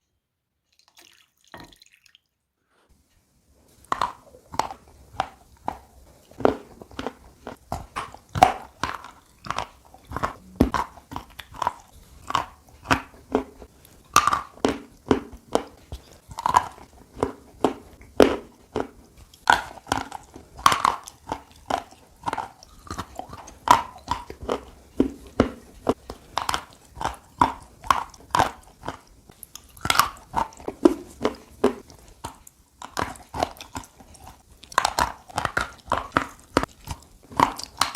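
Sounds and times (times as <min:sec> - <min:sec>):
person chewing hard mineral: 0:03.7 - 0:37.9.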